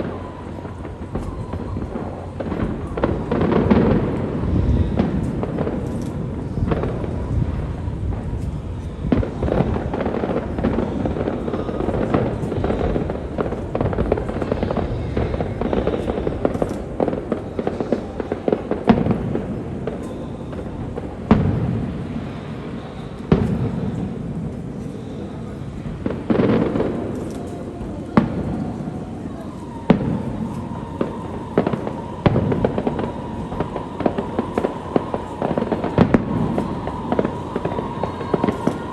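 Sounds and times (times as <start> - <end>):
firework booms: 0.0 - 38.9
fireworks crackling and banging: 0.0 - 38.9.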